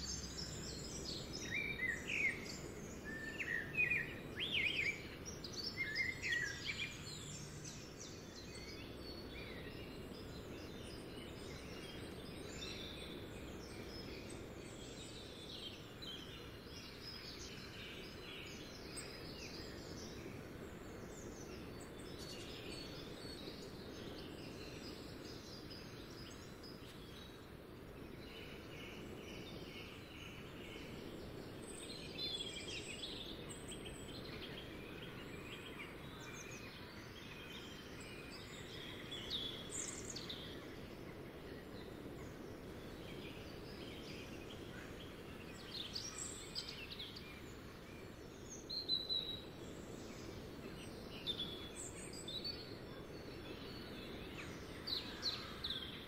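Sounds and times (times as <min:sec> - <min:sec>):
low outdoor background noise: 0:00.0 - 0:56.0.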